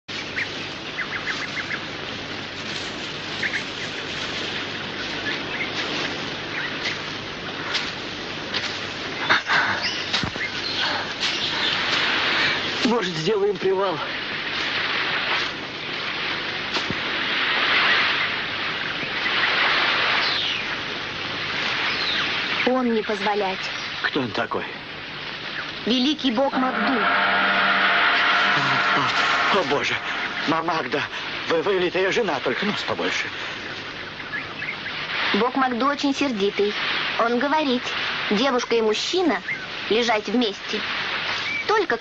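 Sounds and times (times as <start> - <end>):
outdoor ambience hiss: 0.0 - 42.0
surf rushing on beach: 0.1 - 25.6, 26.2 - 42.0
birds chirping: 0.1 - 42.0.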